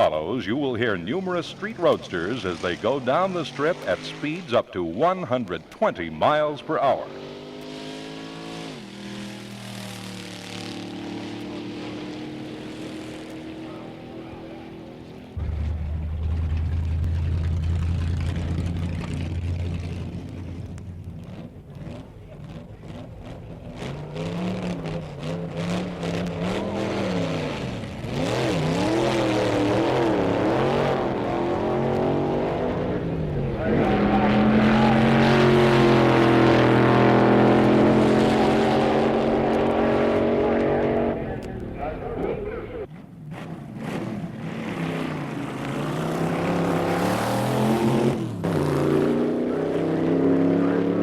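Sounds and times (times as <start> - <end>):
drag car engine revving: 0.0 - 51.0.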